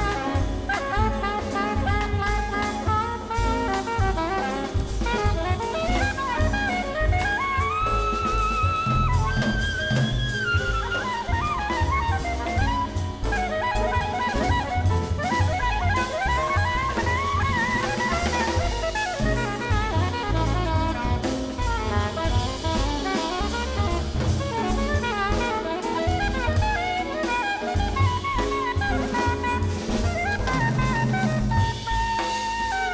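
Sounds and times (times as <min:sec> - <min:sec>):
busy drum kit: 0:00.0 - 0:32.9
horn melody: 0:00.0 - 0:32.9.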